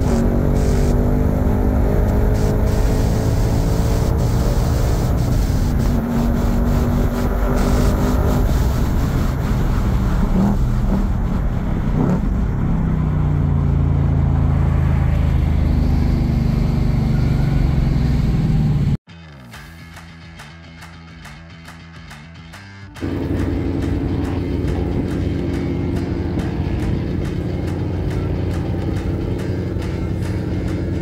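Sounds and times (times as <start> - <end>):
car engine from inside cabin: 0.0 - 19.0, 23.0 - 31.0.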